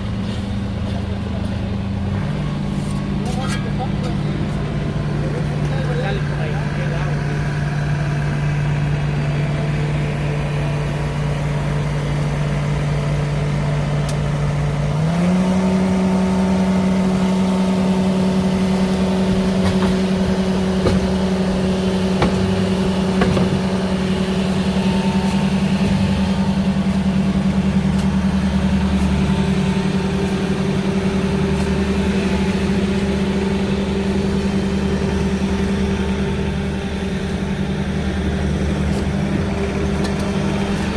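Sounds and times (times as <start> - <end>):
digging machine engine running: 0.0 - 40.9.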